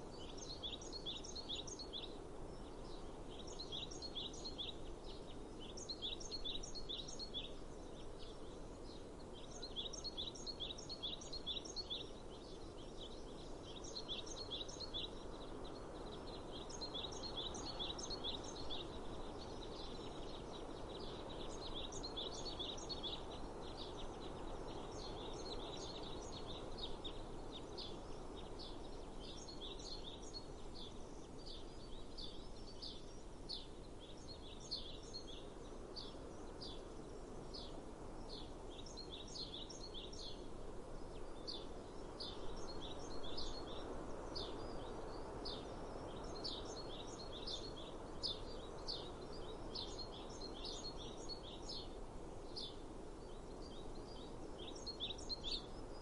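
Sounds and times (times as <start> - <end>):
low outdoor background rush: 0.0 - 56.0
small birds chirping: 0.0 - 56.0.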